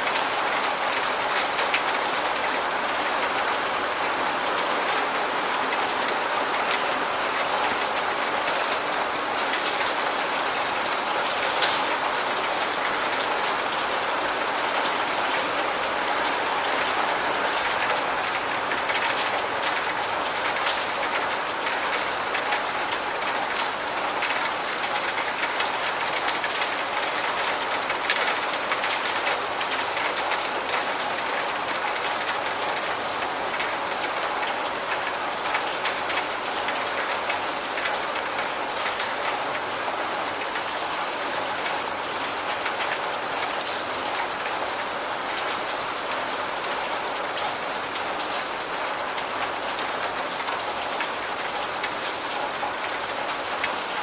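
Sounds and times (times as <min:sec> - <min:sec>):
steady rain falling: 0:00.0 - 0:54.0
raindrops ticking: 0:07.4 - 0:54.0.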